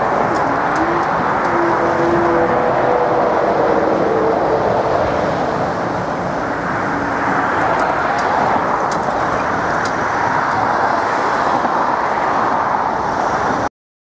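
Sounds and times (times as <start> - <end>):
busy road traffic: 0.0 - 13.7.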